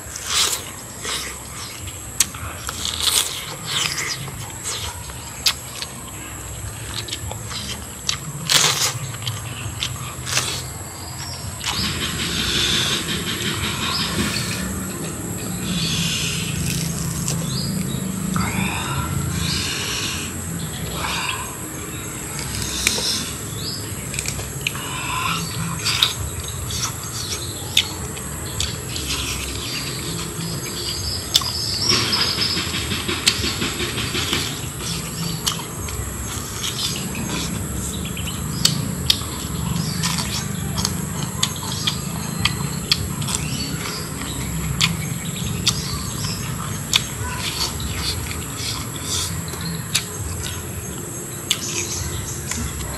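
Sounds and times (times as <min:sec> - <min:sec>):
wet chewing and lip-smacking: 0:00.0 - 0:18.4, 0:20.5 - 0:52.9
high insect drone: 0:00.0 - 0:52.9.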